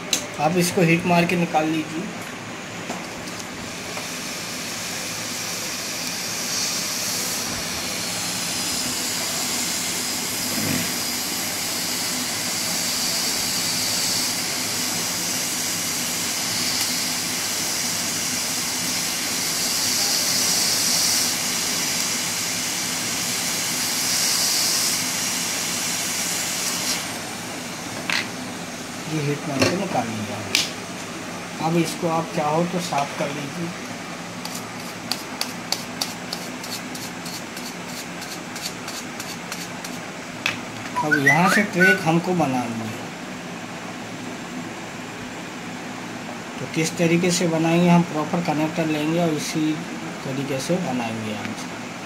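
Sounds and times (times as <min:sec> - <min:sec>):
hot air blower hissing: 0:00.0 - 0:52.0.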